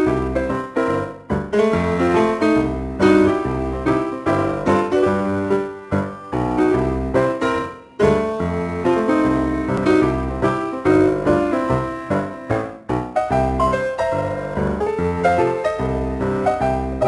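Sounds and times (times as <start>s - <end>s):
bass line: 0.0s - 17.0s
piano tune: 0.0s - 17.0s.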